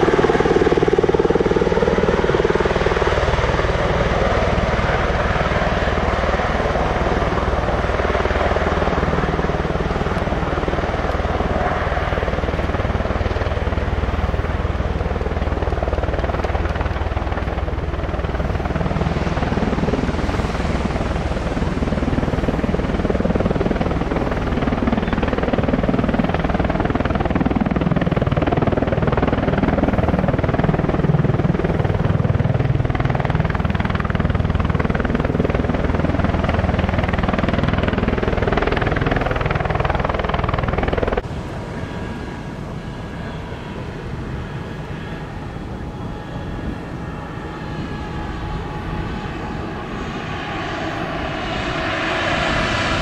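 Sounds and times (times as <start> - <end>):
aircraft rotor noise: 0.0 - 53.0.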